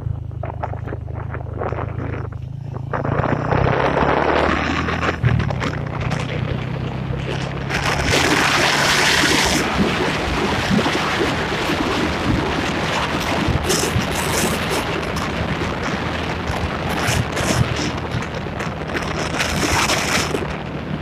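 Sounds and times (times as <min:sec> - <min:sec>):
motorbike engine running: 0:00.0 - 0:21.0
wind noise on microphone: 0:00.0 - 0:21.0.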